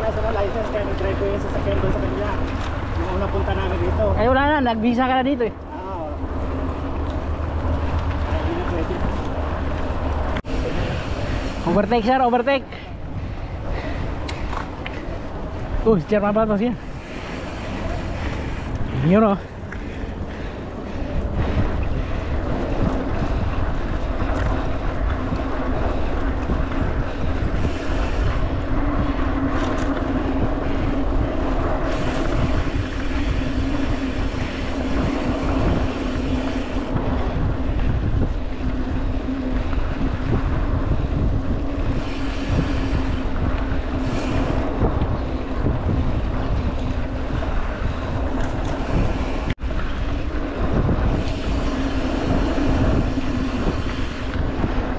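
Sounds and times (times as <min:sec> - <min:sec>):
bike tyre rumble on dirt: 0:00.0 - 0:54.9
wind buffeting microphone: 0:00.0 - 0:54.9.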